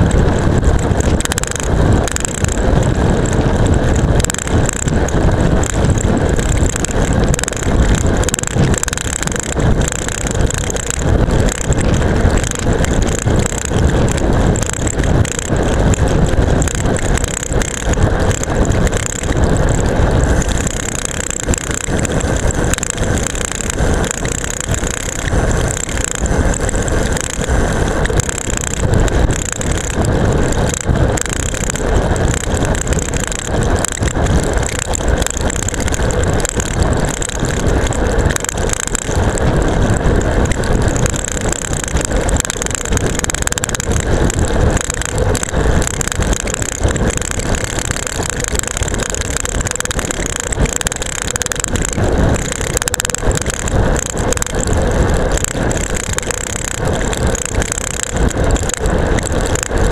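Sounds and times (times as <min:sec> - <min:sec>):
bike tyre noise: 0:00.0 - 0:59.9
rushing wind: 0:00.0 - 0:59.9
camera rattling in its mount: 0:00.6 - 0:59.9.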